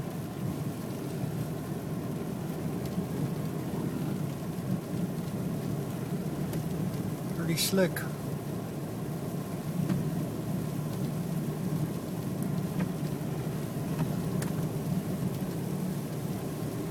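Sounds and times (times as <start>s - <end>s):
car engine and tyres rumbling: 0.0s - 16.9s.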